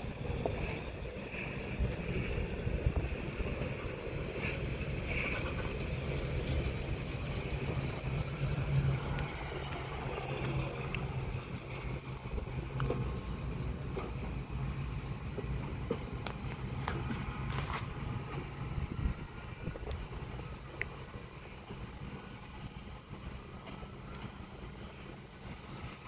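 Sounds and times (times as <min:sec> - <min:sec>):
pickup truck engine hum: 0:00.0 - 0:26.0
rail noise: 0:00.0 - 0:26.0.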